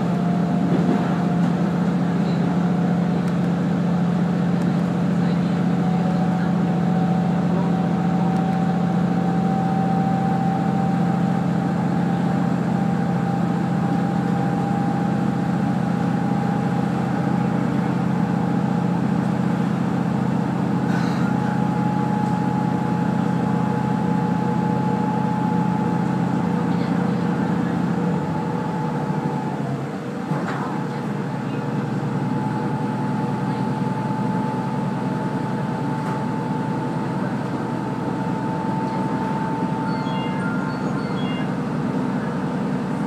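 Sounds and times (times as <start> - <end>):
railcar engine drone: 0.0 - 43.0.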